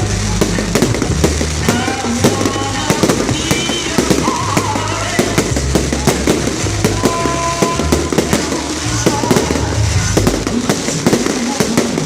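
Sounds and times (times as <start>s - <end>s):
fireworks bangs and cracks: 0.0s - 12.0s
music with steady bass line: 0.0s - 12.0s.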